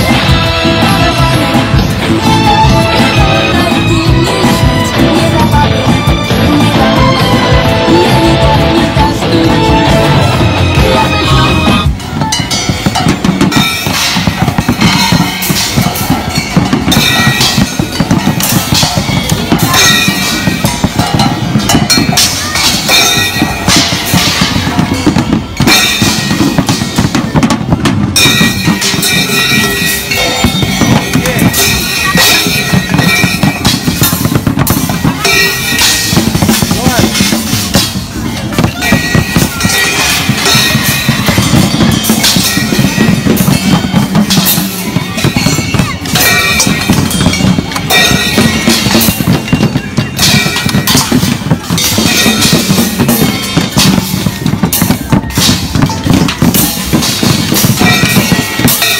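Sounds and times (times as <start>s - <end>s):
drums and cymbals: 0.0s - 58.9s.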